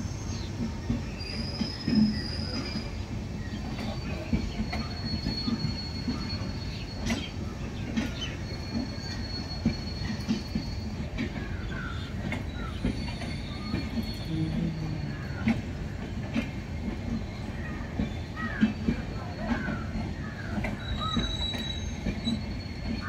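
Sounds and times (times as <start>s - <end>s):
train coaches rumbling past: 0.0s - 23.0s
high wheel squeal: 0.1s - 3.1s, 3.7s - 15.9s, 16.8s - 23.0s.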